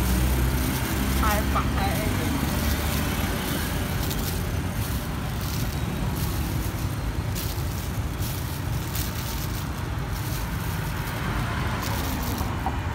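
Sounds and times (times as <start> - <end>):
low rumble of street traffic: 0.0 - 12.9
plastic bag crinkling: 0.0 - 12.9.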